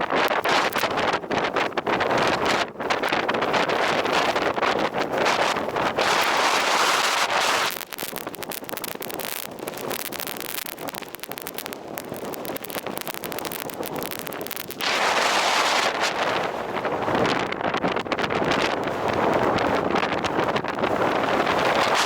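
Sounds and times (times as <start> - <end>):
blizzard wind buffeting microphone: 0.0 - 22.0.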